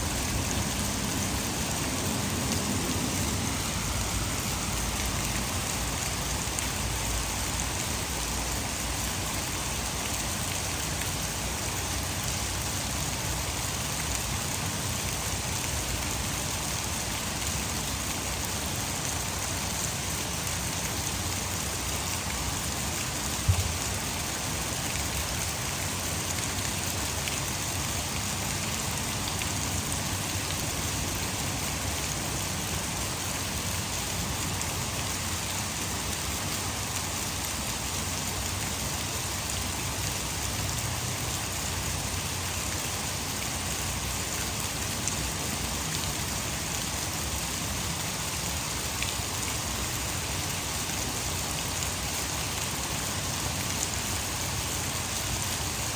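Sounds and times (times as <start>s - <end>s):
heavy rain: 0.0s - 55.9s
water rushing over dam: 0.0s - 55.9s.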